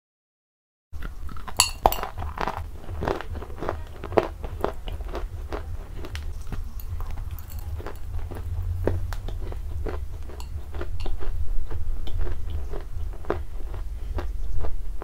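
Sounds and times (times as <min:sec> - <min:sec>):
crunching chewing: 0:01.0 - 0:15.0
low steady hum: 0:01.0 - 0:15.0.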